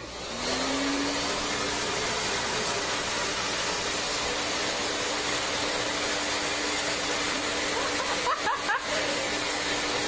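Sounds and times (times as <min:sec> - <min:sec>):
appliance rushing hiss: 0:00.0 - 0:10.0.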